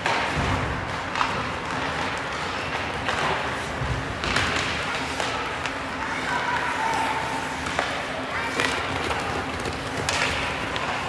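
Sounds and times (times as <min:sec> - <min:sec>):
puck and sticks knocking on boards: 0:00.0 - 0:05.8, 0:07.6 - 0:11.0.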